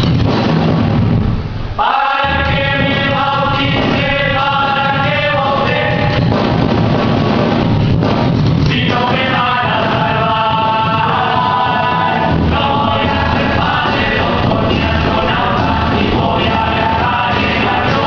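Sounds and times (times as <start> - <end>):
band playing: 0.0 - 18.0.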